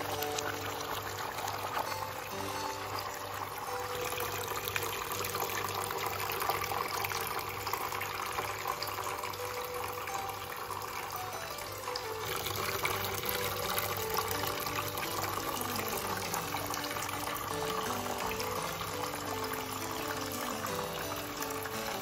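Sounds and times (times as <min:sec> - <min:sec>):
stone fountain trickling water: 0:00.0 - 0:22.0.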